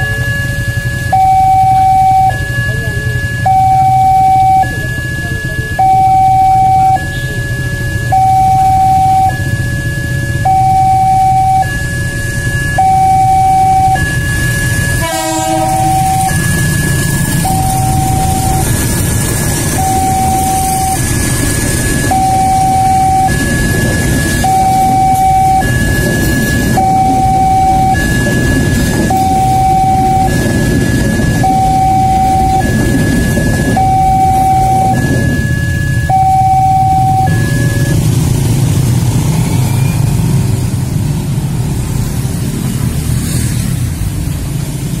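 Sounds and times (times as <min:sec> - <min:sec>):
level crossing two-tone alarm: 0:00.0 - 0:38.7
motorcycle and car engines running: 0:00.0 - 0:45.0
train rumbling past: 0:05.4 - 0:45.0.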